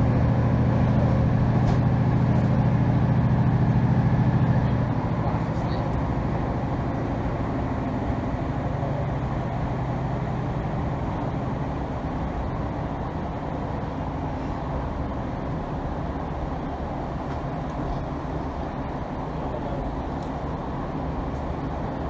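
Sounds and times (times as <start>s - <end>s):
diesel train engine drone: 0.0s - 22.0s
train wheels on rails: 0.0s - 22.0s.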